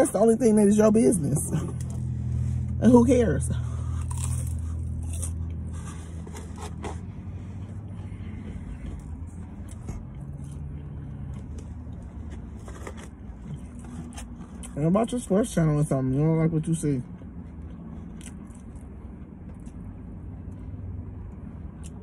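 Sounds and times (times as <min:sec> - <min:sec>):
low car hum: 0:00.0 - 0:22.0
chewing crispy fried food: 0:03.6 - 0:22.0.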